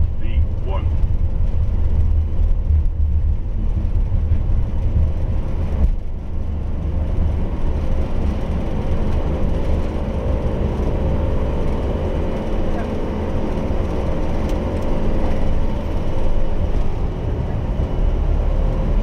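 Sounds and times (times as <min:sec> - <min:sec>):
wheels and engines rumbling: 0:00.0 - 0:19.0.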